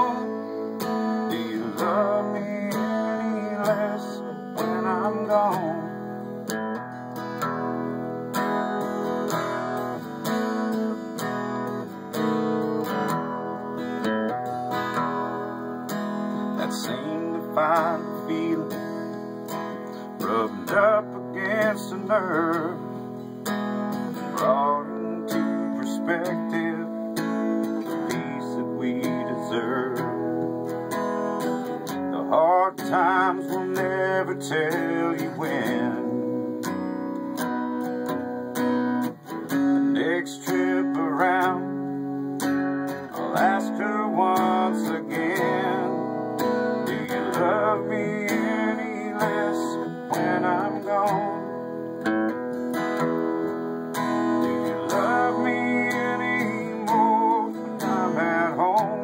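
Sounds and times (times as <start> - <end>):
acoustic guitar strumming: 0.0 - 59.0
bending guitar melody line: 0.0 - 59.0.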